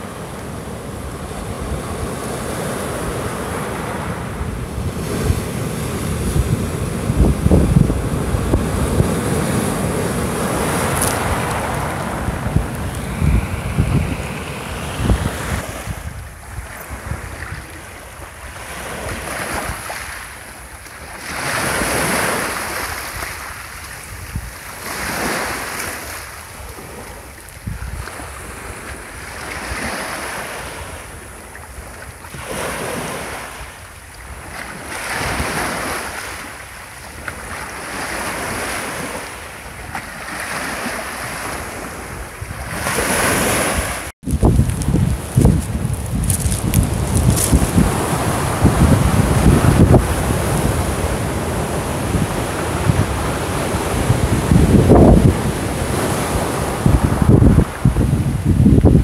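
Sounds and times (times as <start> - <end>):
sea waves washing onto shore: 0.0 - 59.0
wind rumbling on microphone: 0.0 - 59.0.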